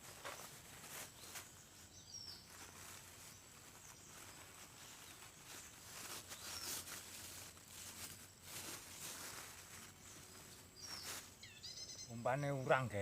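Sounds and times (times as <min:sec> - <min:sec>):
soft rustling and handling: 0:00.0 - 0:11.7
faint bird chirp: 0:00.0 - 0:13.0.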